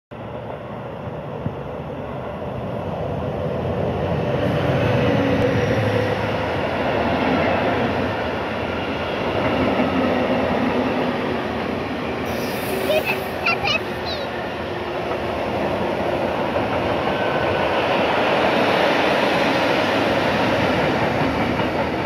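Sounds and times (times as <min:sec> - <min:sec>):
freight train rumbling past: 0:00.1 - 0:22.0.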